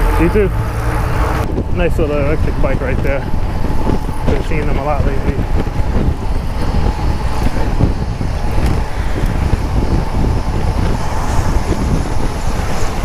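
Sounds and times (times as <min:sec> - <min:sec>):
car traffic: 0:00.0 - 0:13.0
wind rumbling on microphone: 0:00.0 - 0:13.0.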